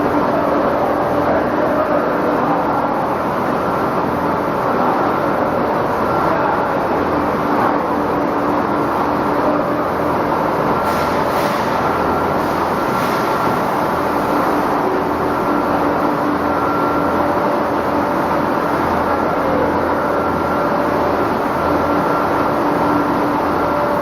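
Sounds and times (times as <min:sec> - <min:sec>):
production line machinery running: 0:00.0 - 0:24.0.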